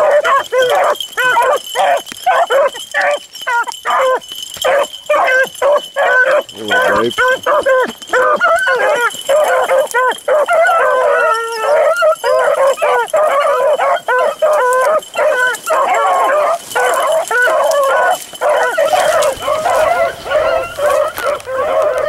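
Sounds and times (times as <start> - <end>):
hounds baying: 0.0 - 22.0.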